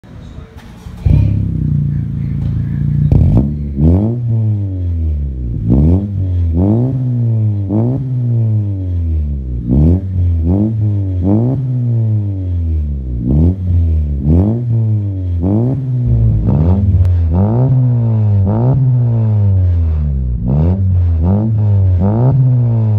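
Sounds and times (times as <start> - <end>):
car engine free revving: 0.6 - 22.9.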